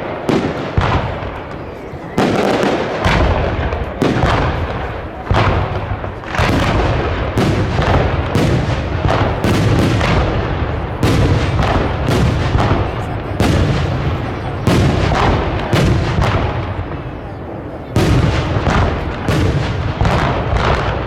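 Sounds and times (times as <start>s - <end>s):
echoing rumble: 0.0s - 21.0s
fireworks bursting: 0.0s - 21.0s.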